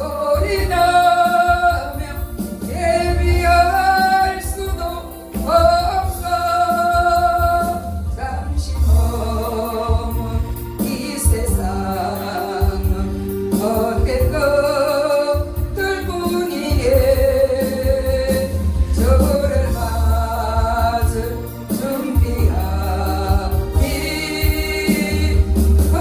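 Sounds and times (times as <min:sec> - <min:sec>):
instrumental accompaniment: 0:00.0 - 0:26.0
person singing gospel song: 0:00.0 - 0:26.0.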